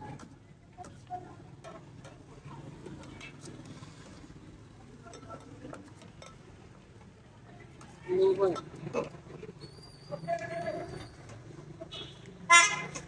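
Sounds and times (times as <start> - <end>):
background chatter: 0.0 - 13.0.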